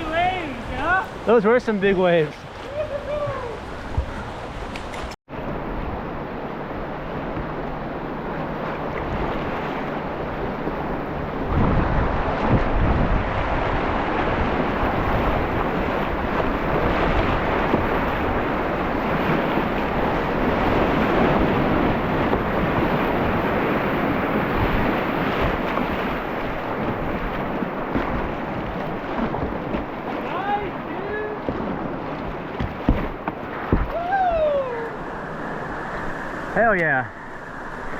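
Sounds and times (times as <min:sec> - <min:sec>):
wind buffeting microphone: 0:00.0 - 0:37.9
whitewater rushing: 0:06.7 - 0:37.9.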